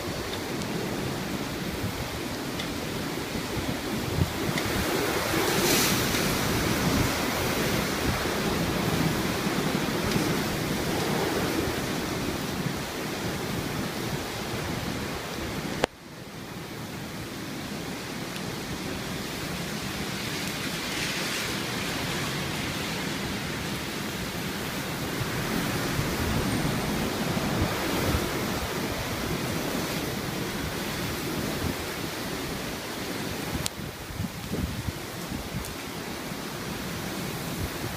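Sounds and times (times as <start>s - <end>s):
rain: 0.0s - 37.9s
strong wind gusting: 0.0s - 37.9s.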